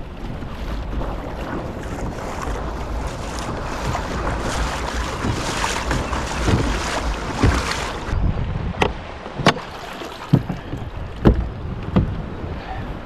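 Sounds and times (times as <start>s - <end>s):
water sloshing against kayak hull: 0.0s - 13.0s
wind buffeting microphone: 0.0s - 13.0s.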